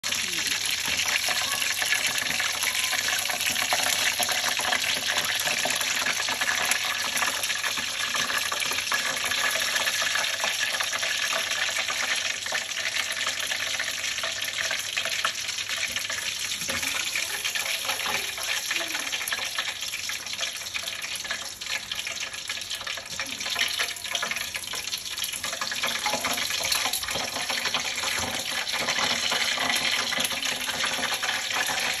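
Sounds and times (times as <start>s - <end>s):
fish deep-frying in oil: 0.0s - 32.0s.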